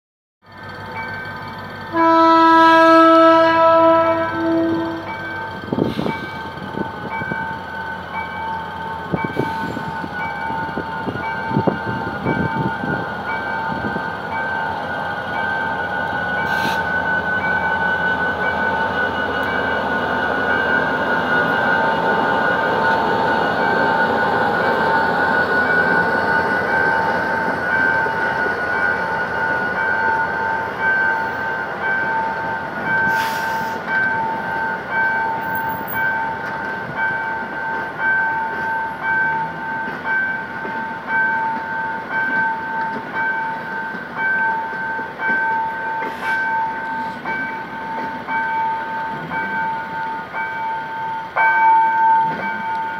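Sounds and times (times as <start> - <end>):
train rolling on jointed track: 0.5 - 52.9
level crossing warning tone: 0.6 - 52.9.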